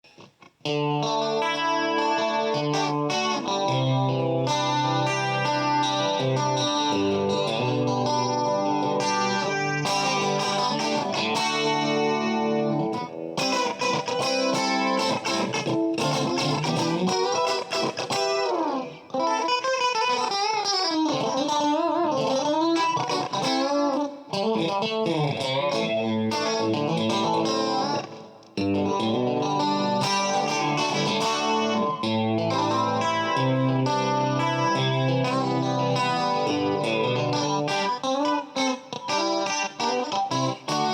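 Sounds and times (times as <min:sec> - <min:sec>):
electric guitar through effects: 0:00.0 - 0:40.9.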